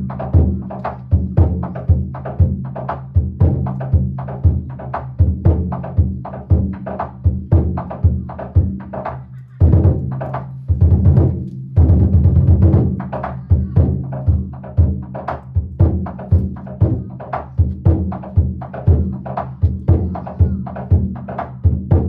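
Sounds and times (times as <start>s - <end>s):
taiko drums beating: 0.0s - 22.0s.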